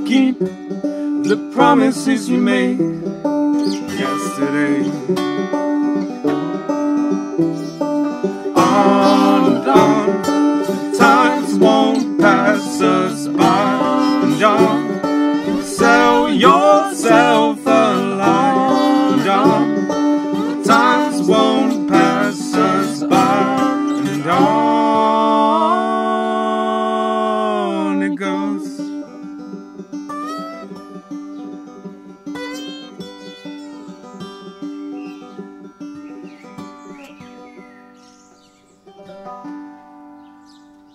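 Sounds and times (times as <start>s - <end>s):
acoustic guitar: 0.0s - 40.9s
banjo: 0.0s - 40.9s.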